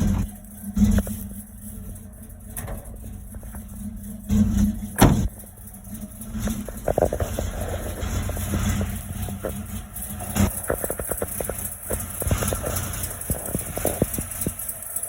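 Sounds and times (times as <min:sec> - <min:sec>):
exhaust crack: 0:00.0 - 0:15.0
truck engine exhaust rumble: 0:00.0 - 0:15.0.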